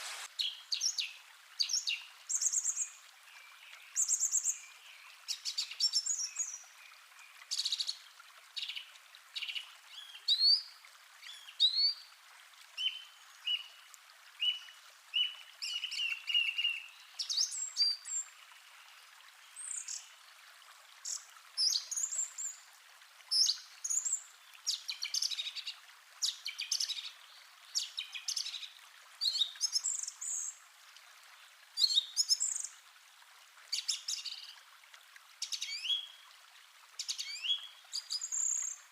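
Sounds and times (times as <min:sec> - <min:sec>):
faint running water hiss: 0:00.0 - 0:38.9.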